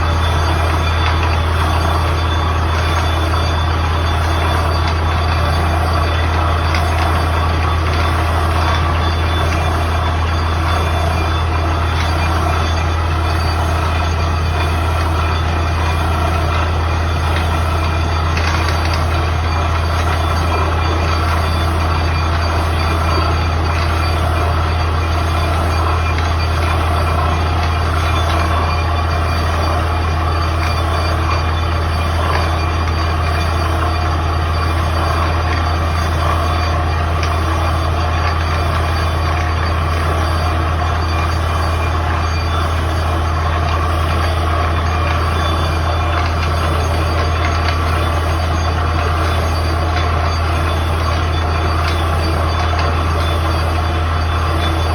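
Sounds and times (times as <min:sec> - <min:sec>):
drilling rig engine drone: 0:00.0 - 0:54.9
mechanical noise: 0:00.0 - 0:54.9.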